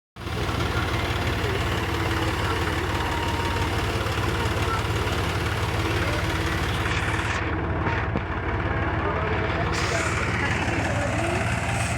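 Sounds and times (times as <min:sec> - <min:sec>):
tractor diesel engine running: 0:00.2 - 0:11.9.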